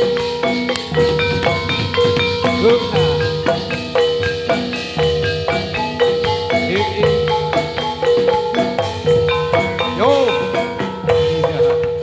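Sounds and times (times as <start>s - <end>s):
metal mallet instruments melody: 0.0s - 12.0s.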